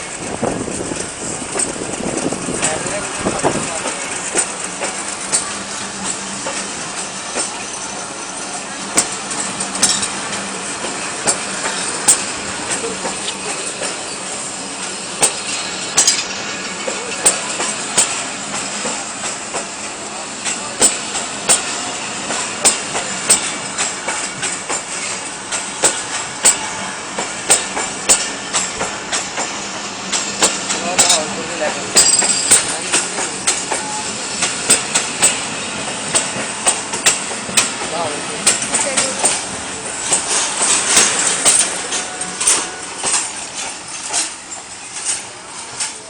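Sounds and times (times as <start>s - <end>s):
train rumbling: 0.0s - 46.0s
train wheels clacking over rail joints: 0.0s - 46.0s.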